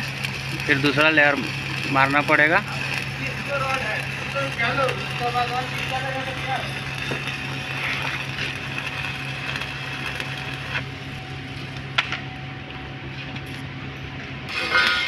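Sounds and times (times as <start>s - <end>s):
welding arc crackling: 0.0s - 13.6s, 14.4s - 15.0s
steady low hum: 0.0s - 15.0s.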